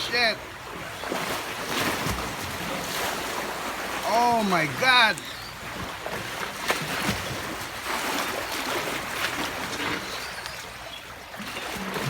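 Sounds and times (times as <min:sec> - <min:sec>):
pool water sloshing and splashing: 0:00.0 - 0:12.0.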